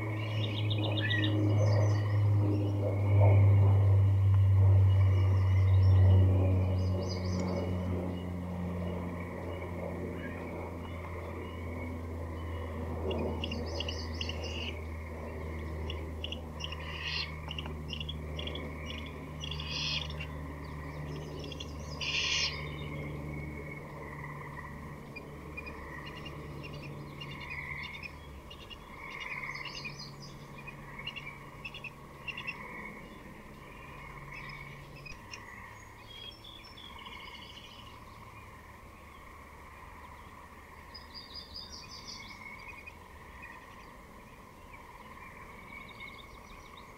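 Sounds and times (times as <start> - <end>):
background bird chorus: 0.0 - 46.9
low hum: 0.0 - 46.9
woodland birds singing: 0.0 - 46.9.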